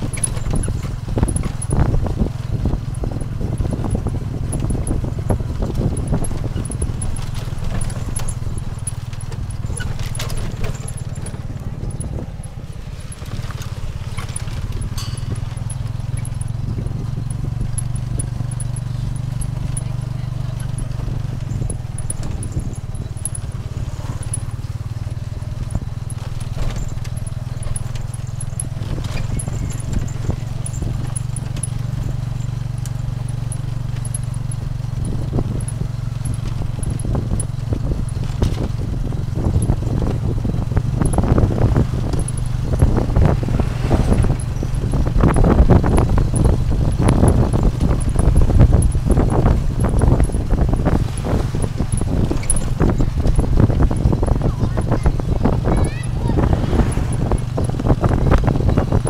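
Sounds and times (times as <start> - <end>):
carriage rattling and knocking: 0.0 - 59.0
engine hum: 0.0 - 59.0.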